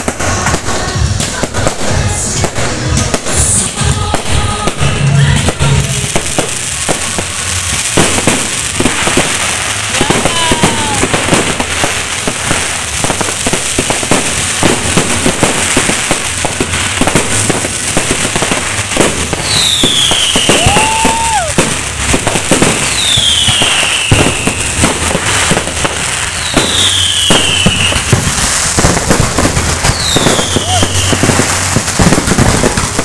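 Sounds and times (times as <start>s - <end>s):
fireworks crackling and banging: 0.0s - 33.0s
rising firework whistle: 0.0s - 33.0s
falling firework whistles: 3.1s - 33.0s.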